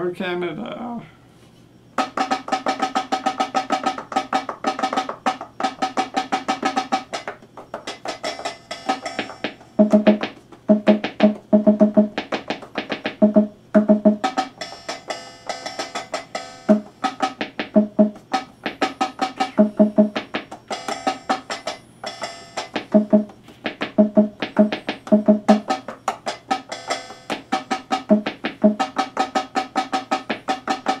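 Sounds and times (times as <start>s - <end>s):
rapid repeated instrument notes: 2.0s - 31.0s.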